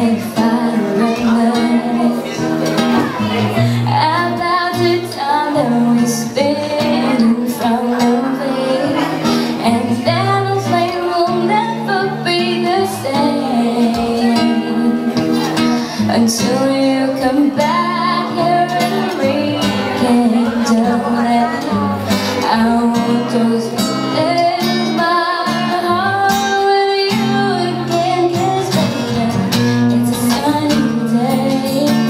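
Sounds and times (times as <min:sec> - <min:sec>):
acoustic guitar: 0:00.0 - 0:32.0
woman singing: 0:00.0 - 0:32.0.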